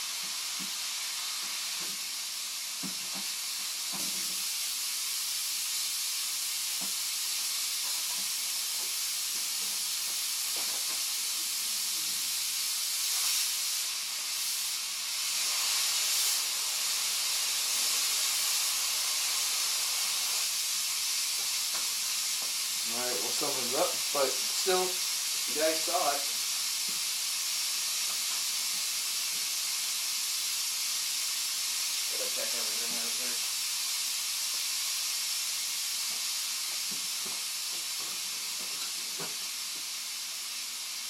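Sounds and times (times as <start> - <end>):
steam cleaner hissing: 0.0 - 41.0.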